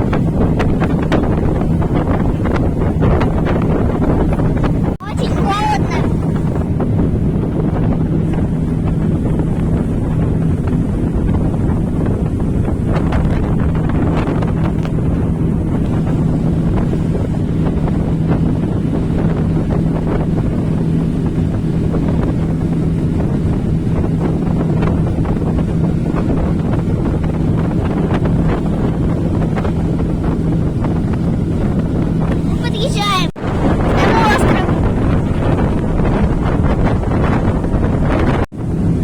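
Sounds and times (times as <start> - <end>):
motorboat engine running: 0.0 - 39.0
wind on microphone: 0.0 - 39.0.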